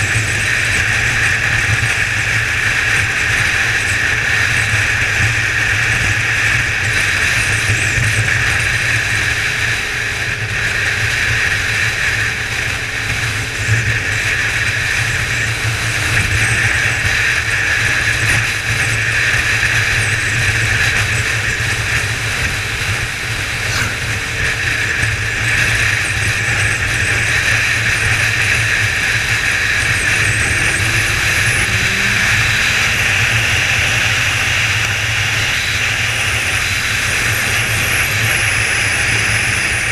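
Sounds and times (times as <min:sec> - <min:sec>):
motorcycle engine running steadily: 0:00.0 - 0:39.9
wind noise: 0:00.0 - 0:39.9.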